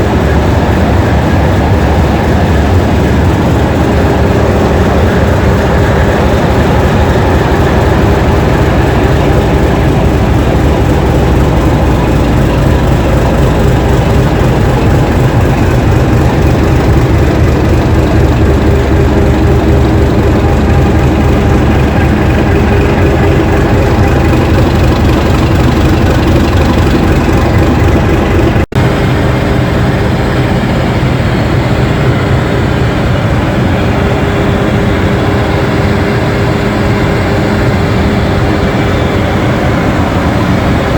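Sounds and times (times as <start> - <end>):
diesel locomotive engine running: 0.0 - 40.9.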